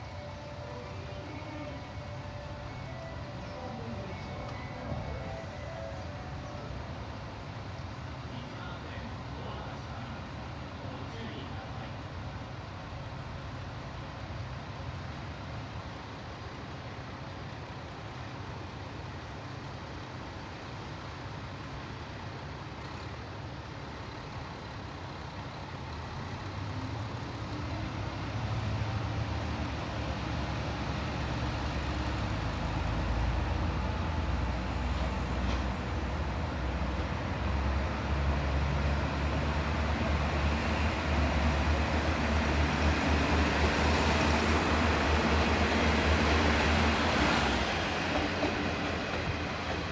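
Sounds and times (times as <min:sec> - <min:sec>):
train diesel engines: 0:00.0 - 0:49.9.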